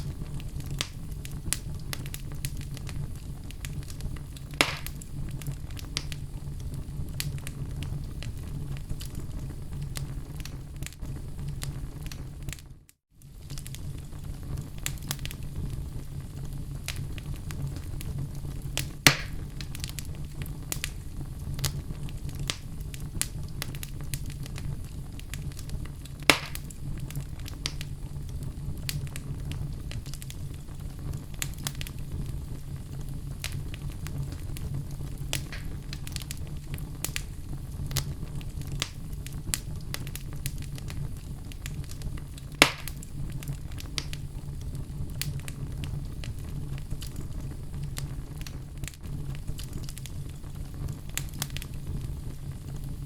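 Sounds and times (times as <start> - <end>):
fire crackling: 0.0 - 53.0
low rumble of flames: 0.0 - 53.0
sharp wood fire pops: 0.0 - 53.0.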